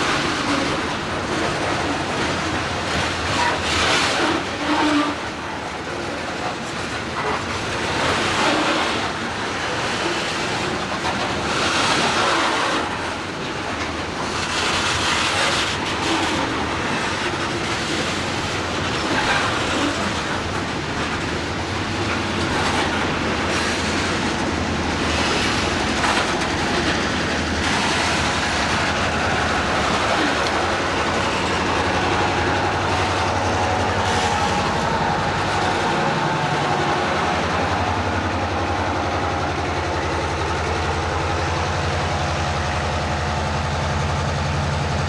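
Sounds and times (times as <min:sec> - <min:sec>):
train wheels clattering on rails: 0:00.0 - 0:45.0.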